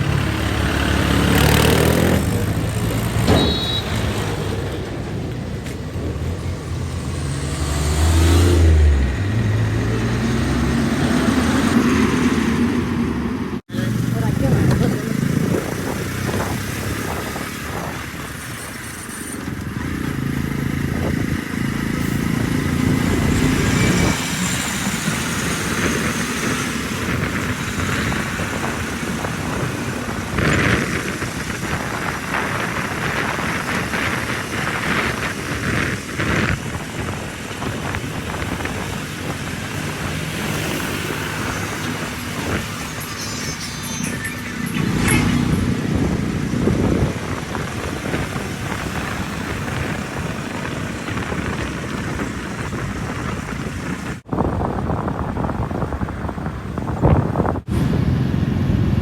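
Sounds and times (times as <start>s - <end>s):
heavy machinery diesel engines: 0.0s - 59.0s.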